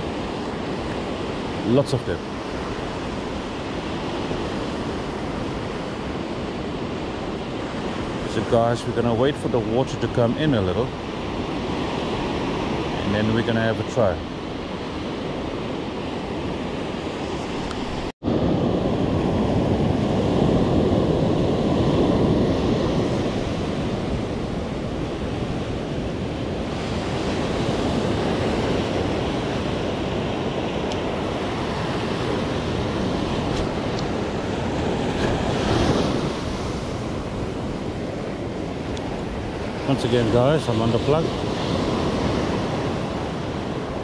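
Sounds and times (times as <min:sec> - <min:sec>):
ocean surf breaking: 0:00.0 - 0:44.0
wind on microphone: 0:00.0 - 0:44.0.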